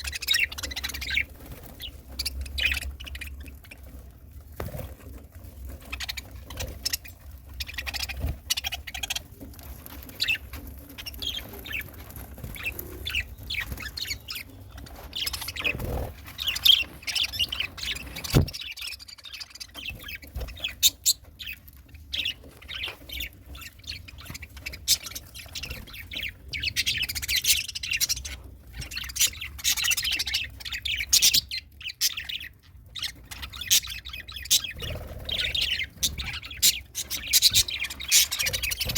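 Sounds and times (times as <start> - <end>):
budgerigars chirping and warbling: 0.0 - 38.9.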